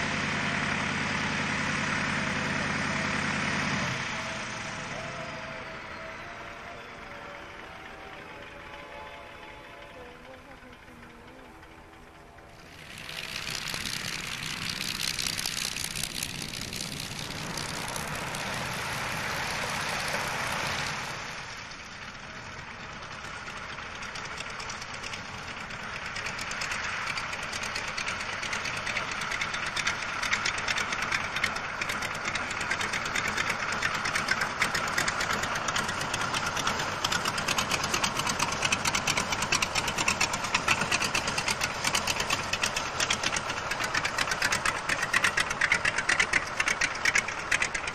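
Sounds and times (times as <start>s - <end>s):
loud engine noise: 0.0s - 47.9s
radial aircraft engine idling: 0.0s - 47.9s.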